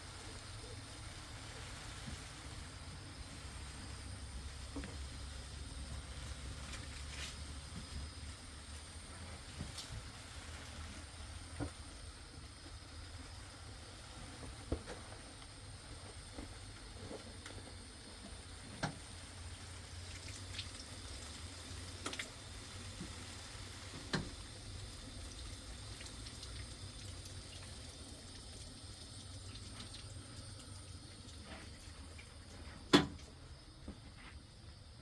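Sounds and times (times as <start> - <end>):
faint water-like noise: 0.0 - 35.0.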